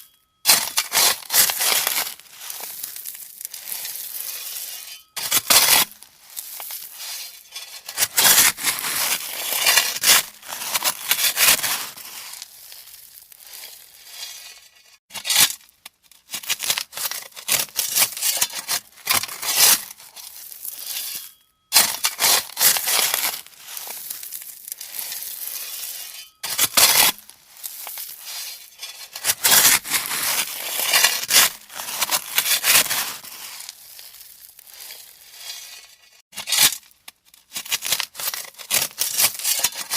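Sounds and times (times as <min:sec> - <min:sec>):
shovel scraping through gravel: 0:00.0 - 0:15.7, 0:16.3 - 0:36.9, 0:37.5 - 0:39.9.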